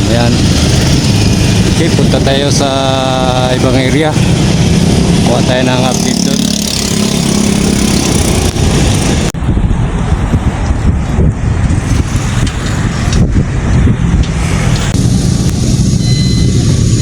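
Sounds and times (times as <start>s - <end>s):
rumbling road and wind noise: 0.0s - 17.0s
vehicle engine running: 0.0s - 17.0s.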